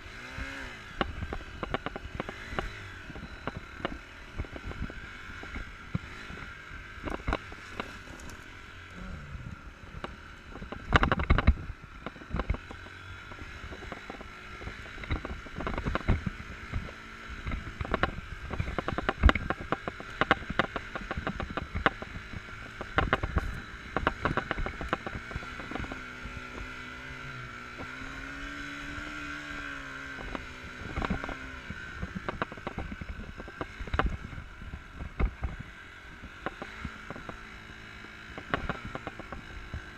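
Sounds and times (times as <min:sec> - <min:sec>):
motorcycle engine: 0:00.0 - 0:39.9
knocks and thumps over rough ground: 0:00.3 - 0:39.9.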